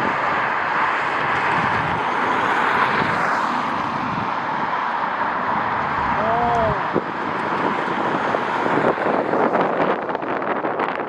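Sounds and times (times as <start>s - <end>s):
jet engine rushing: 0.0s - 11.0s
wind buffeting microphone: 0.0s - 11.0s.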